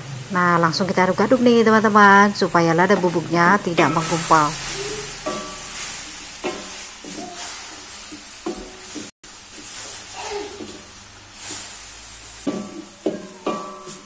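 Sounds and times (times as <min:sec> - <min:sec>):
vegetables sizzling in wok: 0:00.0 - 0:14.0
spatula scraping pan: 0:01.9 - 0:14.0.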